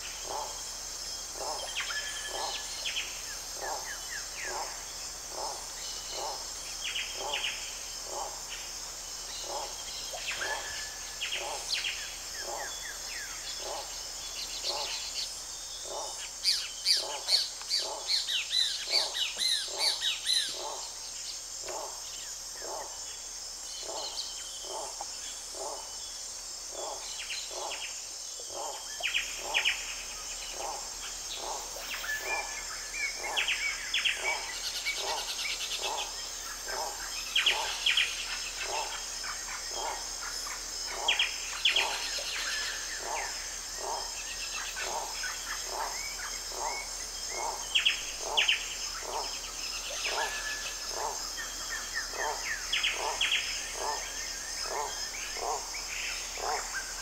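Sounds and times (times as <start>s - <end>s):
high insect chorus: 0.0s - 57.0s
birds chirping: 1.3s - 8.3s, 9.4s - 22.0s, 23.8s - 57.0s.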